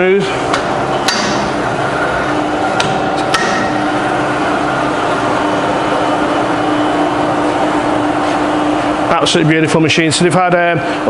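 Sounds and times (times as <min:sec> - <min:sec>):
milling machines humming: 0:00.0 - 0:11.0.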